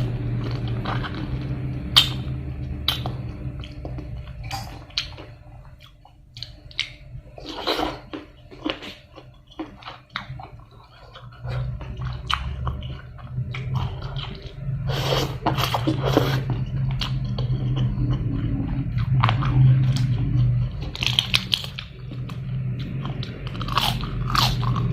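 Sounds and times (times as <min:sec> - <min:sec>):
low steady hum: 0:00.0 - 0:24.9
person chewing food: 0:00.0 - 0:24.9.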